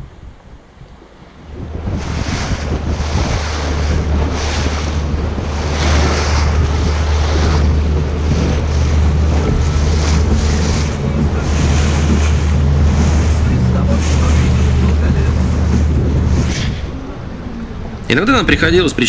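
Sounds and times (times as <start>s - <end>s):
motorboat engine drone: 0.0s - 19.0s
water rushing along hull: 0.0s - 19.0s
wind buffeting microphone: 0.0s - 19.0s.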